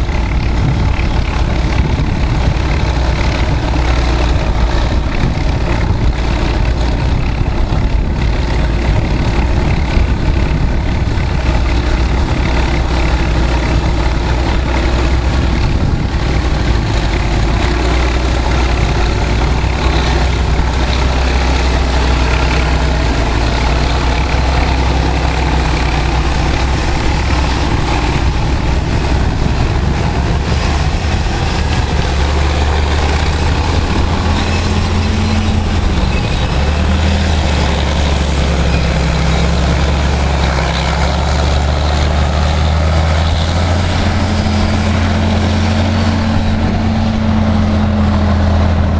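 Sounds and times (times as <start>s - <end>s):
heavy diesel engines running: 0.0s - 48.9s
wind noise on microphone: 0.0s - 48.9s.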